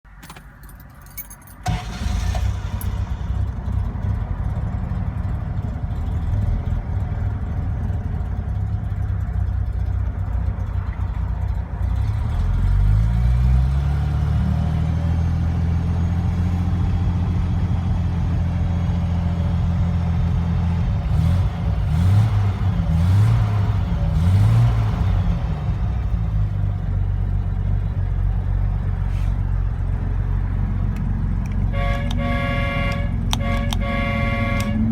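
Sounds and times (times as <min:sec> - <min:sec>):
car engine starting and idling: 0:00.1 - 0:34.9.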